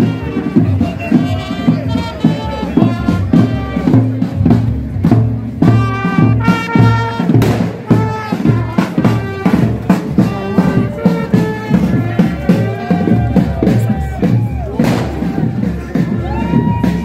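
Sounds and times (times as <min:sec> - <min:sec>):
brass instruments holding notes: 0:00.0 - 0:04.4, 0:05.6 - 0:17.0
bass drum and snare beat: 0:00.0 - 0:17.0.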